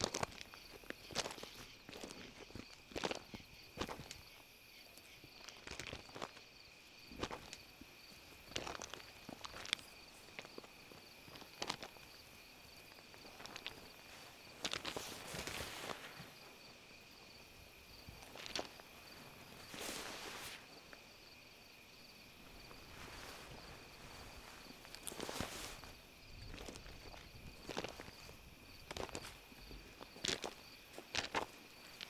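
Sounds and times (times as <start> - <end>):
high-pitched cricket trill: 0.0 - 32.0
slow irregular footsteps: 0.0 - 32.0.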